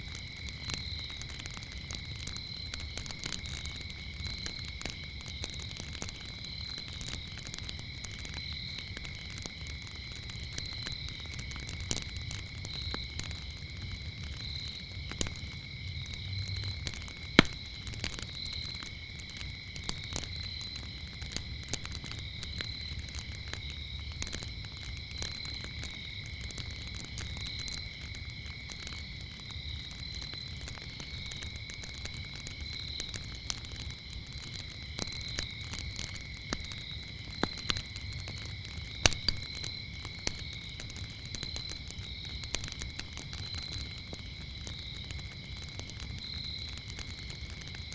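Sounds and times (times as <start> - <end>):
crickets chirping: 0.0 - 47.9
fire popping: 0.0 - 47.9
wood fire crackling: 0.0 - 47.9.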